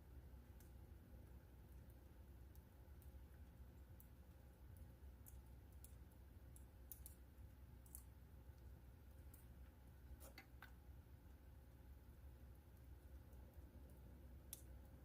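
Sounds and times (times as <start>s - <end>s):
low steady hum: 0.0s - 15.0s
wood fire crackling: 0.0s - 15.0s.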